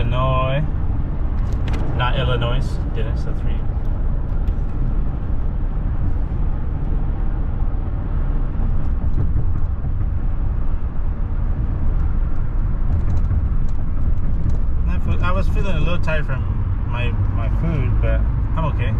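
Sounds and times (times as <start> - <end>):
motorcycle road rumble: 0.0 - 18.9.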